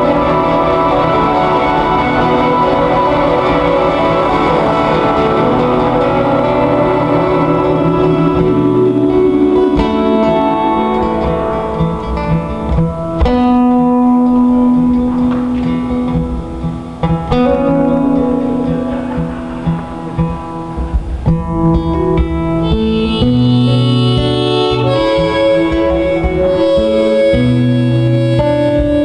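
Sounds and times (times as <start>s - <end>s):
live band with ringing guitar chords: 0.0s - 29.0s.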